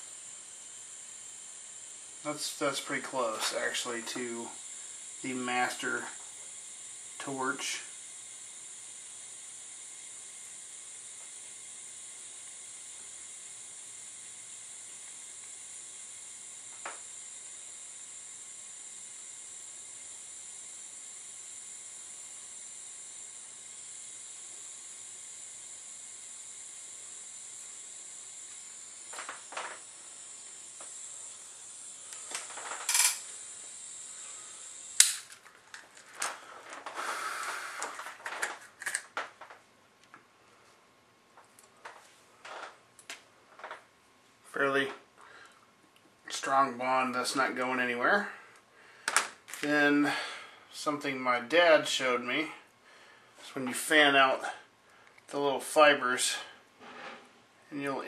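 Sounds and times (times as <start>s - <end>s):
soldering iron hissing: 0.0s - 39.4s, 44.5s - 58.0s.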